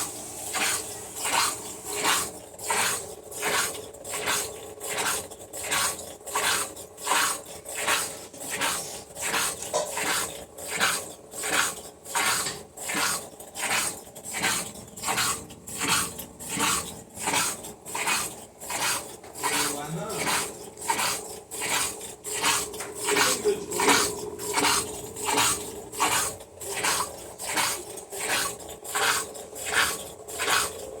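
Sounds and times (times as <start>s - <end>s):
washing machine rasping swish: 0.0s - 31.0s.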